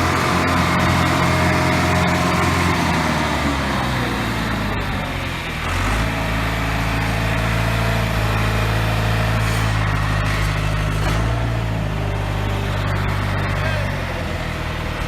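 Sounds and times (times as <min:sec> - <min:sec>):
large vehicle engine running: 0:00.0 - 0:15.0.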